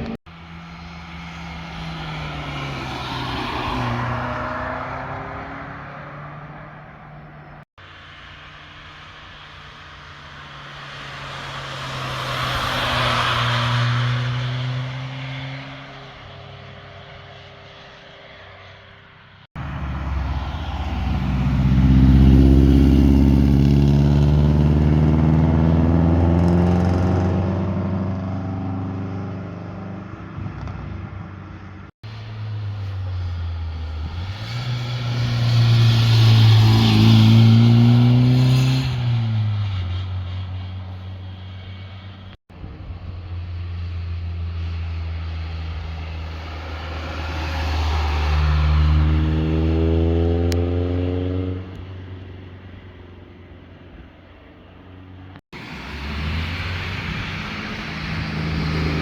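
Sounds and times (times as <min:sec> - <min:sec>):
sports cars revving past: 0:00.0 - 0:07.6, 0:10.3 - 0:18.9, 0:19.5 - 0:40.2, 0:44.2 - 0:52.4, 0:55.6 - 0:59.0.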